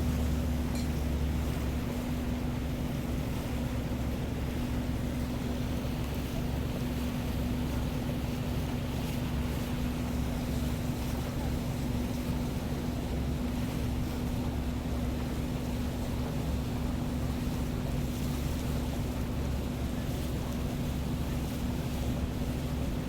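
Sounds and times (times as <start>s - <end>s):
boat engine droning: 0.0s - 23.0s
wind: 0.0s - 23.0s.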